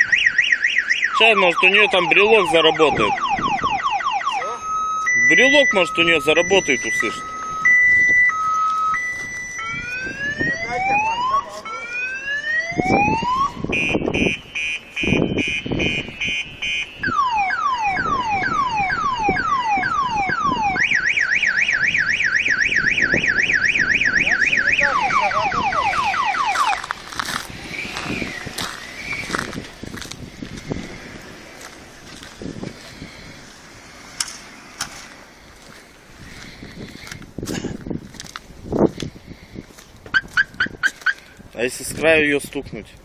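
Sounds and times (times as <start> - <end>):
car alarm siren: 0.0 - 34.9, 40.1 - 41.2.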